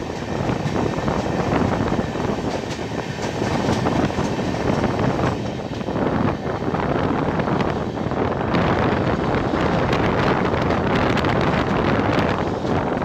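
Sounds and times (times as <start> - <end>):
train wheels rumbling on rails: 0.0 - 13.0
wind on microphone: 0.0 - 13.0.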